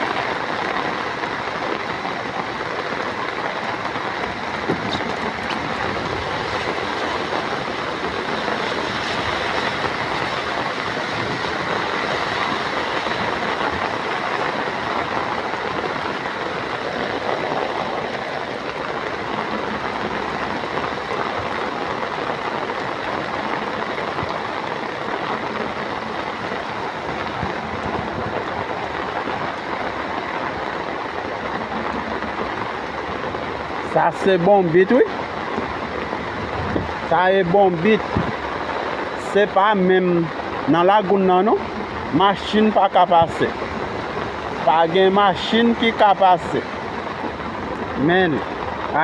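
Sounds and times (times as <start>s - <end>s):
water rushing in street: 0.0s - 49.0s.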